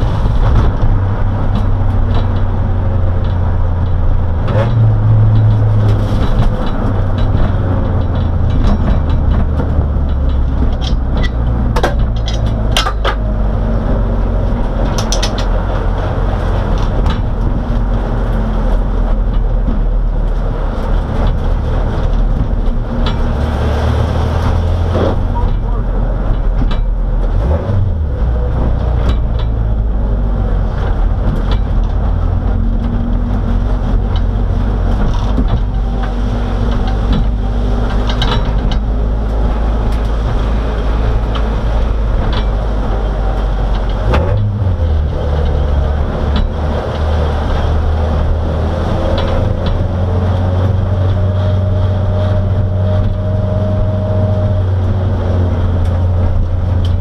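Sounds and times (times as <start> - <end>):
race car engine droning: 0.0 - 57.0.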